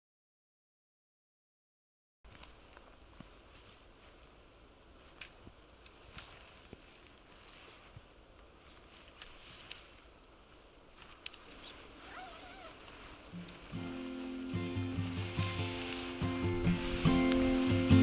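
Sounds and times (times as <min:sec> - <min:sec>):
quiet outdoor hiss: 0:02.3 - 0:18.0
tent rustling and clicking: 0:02.3 - 0:18.0.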